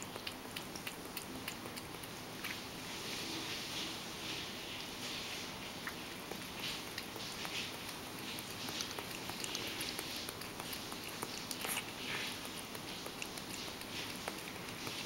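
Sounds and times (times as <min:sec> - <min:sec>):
cat lapping milk from metal bowl: 0:00.0 - 0:15.0.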